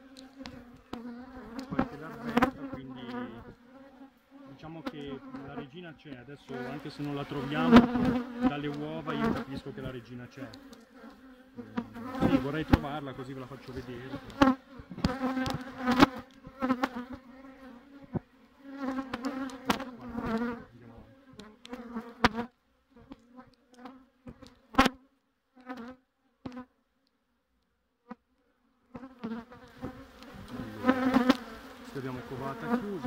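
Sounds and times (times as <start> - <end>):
honeybees buzzing: 0.0 - 25.0, 28.9 - 33.0.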